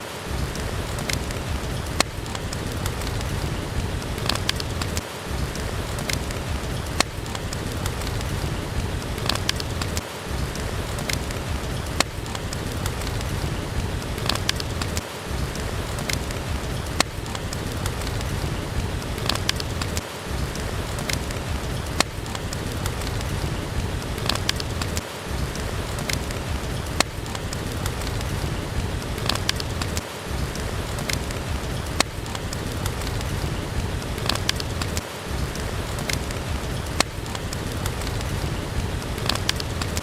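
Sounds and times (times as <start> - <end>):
heavy rain hiss: 0.0 - 40.0
wood fire crackling: 0.0 - 40.0.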